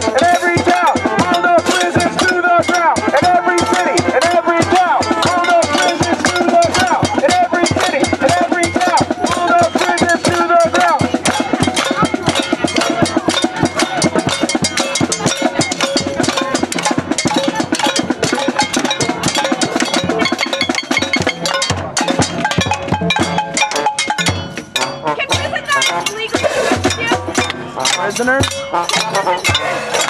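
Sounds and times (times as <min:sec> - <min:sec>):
drums and percussion clattering: 0:00.0 - 0:30.0
voices: 0:00.0 - 0:30.0.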